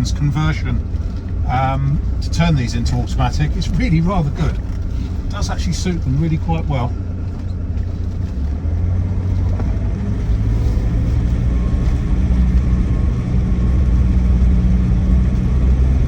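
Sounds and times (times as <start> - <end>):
diesel engine droning: 0.0 - 16.0
road noise: 0.0 - 16.0.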